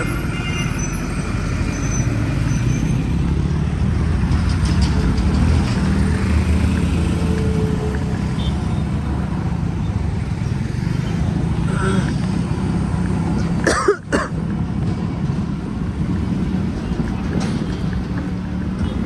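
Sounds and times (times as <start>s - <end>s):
road and engine noise: 0.0s - 19.0s.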